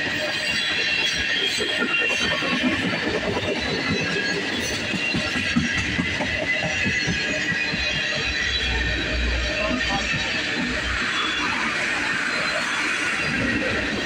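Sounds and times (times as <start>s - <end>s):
freight train rolling past: 0.0s - 14.0s
wheels squealing on rails: 0.0s - 14.0s.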